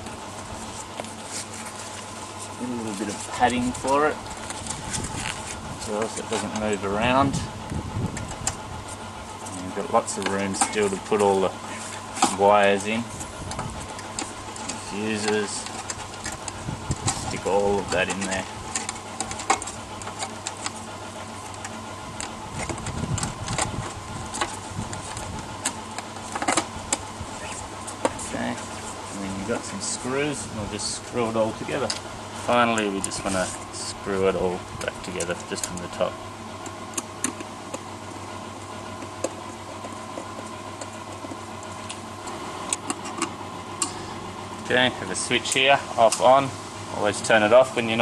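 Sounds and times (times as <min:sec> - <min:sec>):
steady low hum: 0:00.0 - 0:48.0
wires and metal plate rattling: 0:00.0 - 0:48.0.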